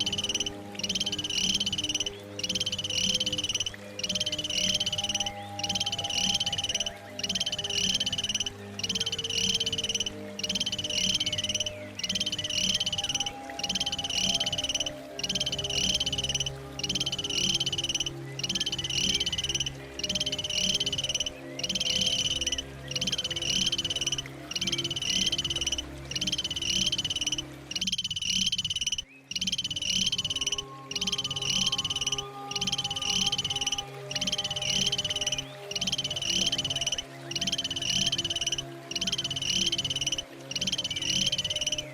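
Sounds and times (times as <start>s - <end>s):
animal call: 0.0s - 41.9s
low steady tones: 0.0s - 41.9s.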